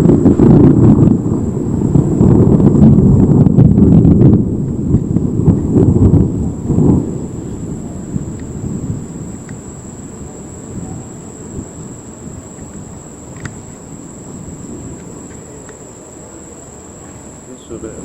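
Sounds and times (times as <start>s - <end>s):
crickets trilling: 0.0s - 18.0s
thunder rumbling: 0.0s - 18.0s.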